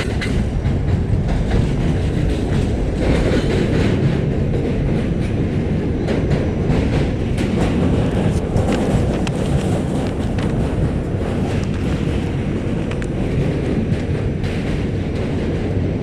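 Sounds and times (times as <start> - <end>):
train wheels rumbling on rails: 0.0 - 16.0
wheels clacking over rail joints: 0.0 - 16.0.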